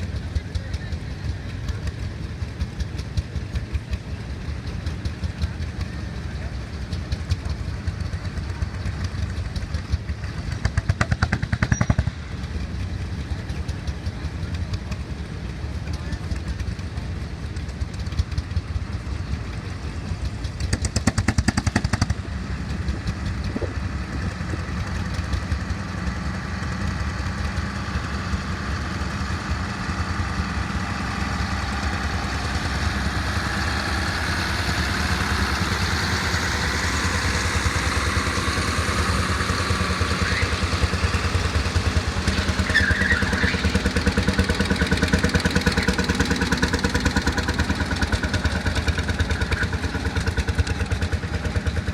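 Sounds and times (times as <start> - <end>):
rapid even clatter: 0.0 - 51.9
tractor engine running: 0.0 - 51.9.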